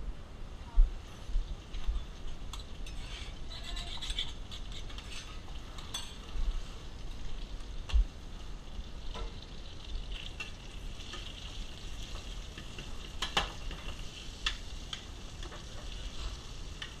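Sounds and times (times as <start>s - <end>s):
food sizzling in a hot pan: 1.6s - 17.0s.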